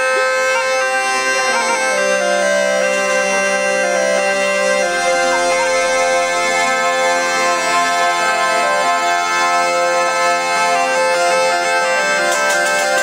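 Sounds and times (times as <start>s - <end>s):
bagpipes droning: 0.0s - 13.0s
shawm playing melody: 0.0s - 13.0s.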